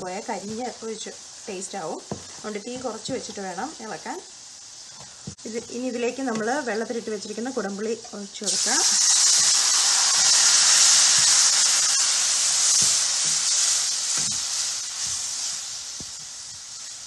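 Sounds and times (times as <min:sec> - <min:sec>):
steam hissing and sizzling in pan: 0:00.0 - 0:17.0.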